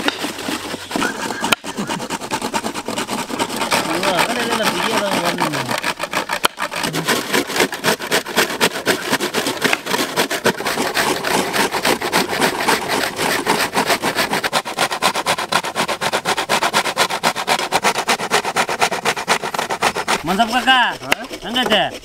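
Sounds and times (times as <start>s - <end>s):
coconut scraping on grater: 0.0s - 22.0s.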